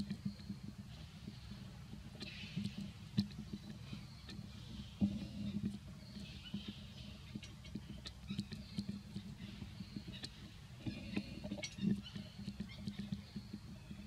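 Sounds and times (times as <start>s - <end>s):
small clicks and taps: 0.0s - 13.8s.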